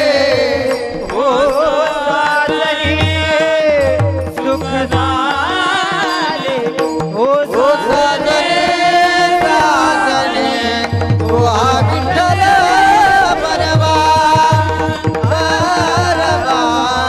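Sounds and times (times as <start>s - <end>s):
person singing ornamented notes: 0.0s - 17.0s
steady accompanying tones: 0.0s - 17.0s.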